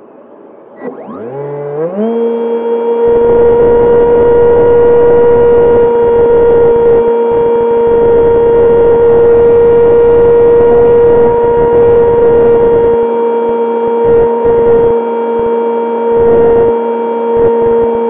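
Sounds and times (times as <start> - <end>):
electric motor and propeller whine: 0.8 - 18.0.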